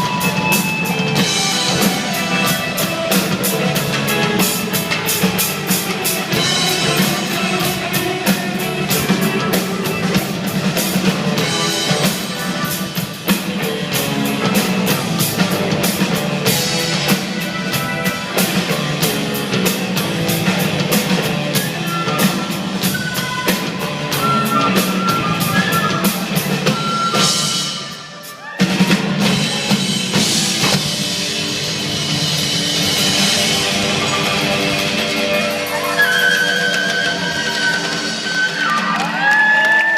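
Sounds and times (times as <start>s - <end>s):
drum kit: 0.0s - 39.9s
rock band playing: 0.0s - 39.9s.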